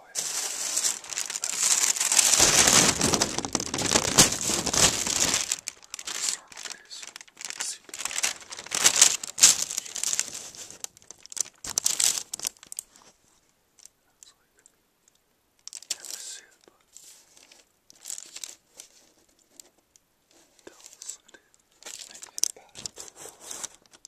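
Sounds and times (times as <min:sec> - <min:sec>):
crinkling and rustling handling noise: 0:00.0 - 0:14.0, 0:15.6 - 0:24.0.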